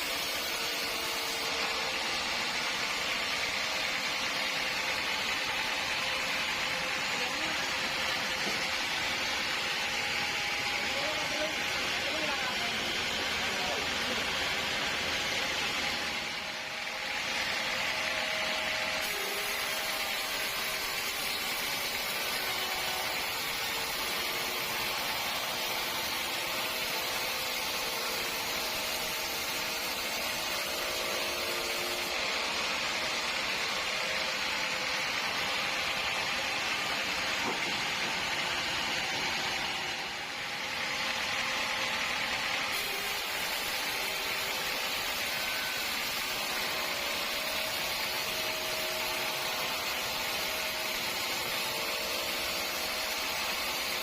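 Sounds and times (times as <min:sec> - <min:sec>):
sawmill saw cutting a log: 0:00.0 - 0:54.0.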